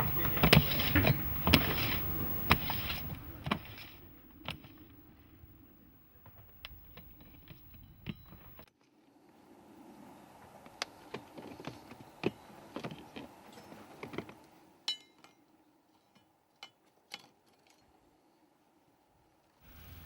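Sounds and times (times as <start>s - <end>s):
faint steady hum: 0.0s - 16.2s, 18.0s - 20.0s.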